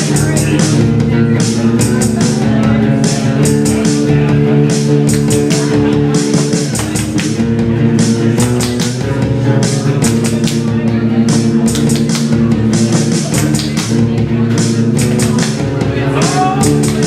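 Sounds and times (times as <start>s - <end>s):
bass guitar low notes: 0.0s - 17.0s
steady drum beat: 0.0s - 17.0s.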